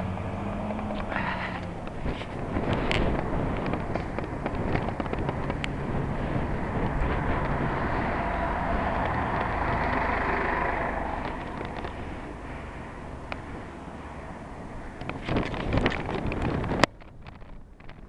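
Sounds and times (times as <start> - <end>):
vehicle passing: 0.0 - 16.8
street traffic: 0.0 - 18.0
wind rumble on microphone: 0.0 - 18.0
bicycle rattles and clicks: 0.8 - 18.0.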